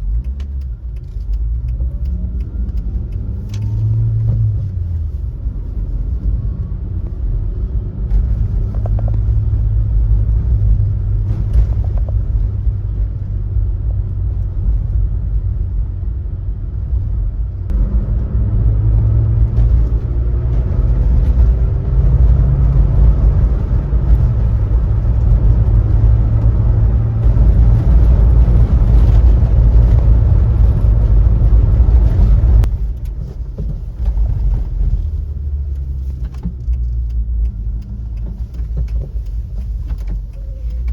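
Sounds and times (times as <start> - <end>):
road noise: 0.0 - 40.9
van engine rumble: 0.0 - 40.9.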